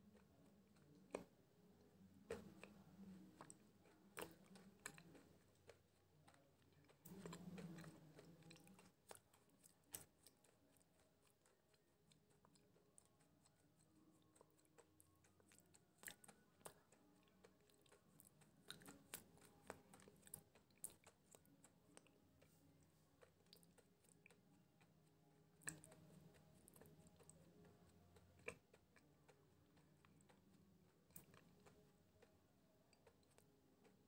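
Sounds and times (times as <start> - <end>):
chewing food: 0.0 - 34.0.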